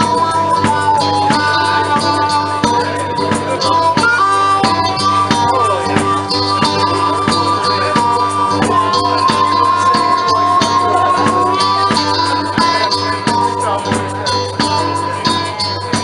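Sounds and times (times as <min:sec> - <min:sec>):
live blues band playing: 0:00.0 - 0:16.0.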